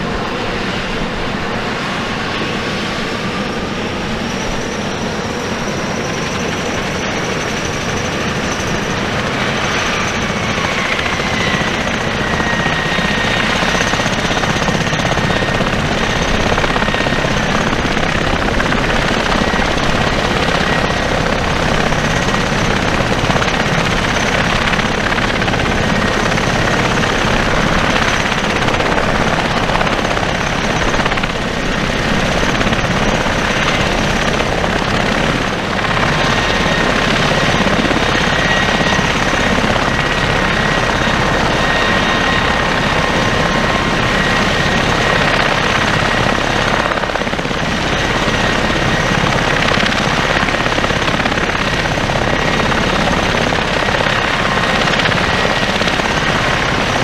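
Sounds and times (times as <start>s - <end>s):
high turbine whine: 0.0s - 57.0s
tiltrotor aircraft engines running: 0.0s - 57.0s.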